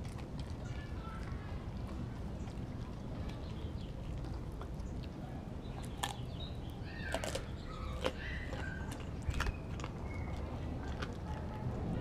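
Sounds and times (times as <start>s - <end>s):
teeth clicking: 0.0s - 11.6s
dog chewing meat: 0.0s - 12.0s.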